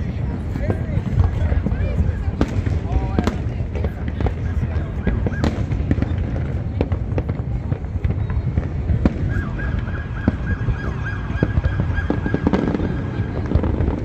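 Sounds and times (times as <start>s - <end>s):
fireworks booming: 0.0s - 14.0s
fireworks sharp cracks: 0.0s - 14.0s.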